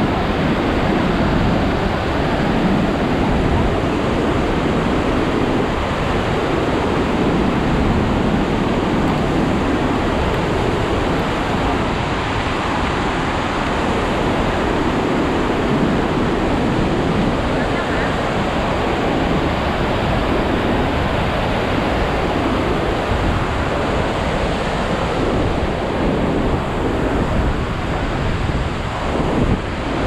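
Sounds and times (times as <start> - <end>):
river rapids and waterfalls rushing: 0.0 - 30.0.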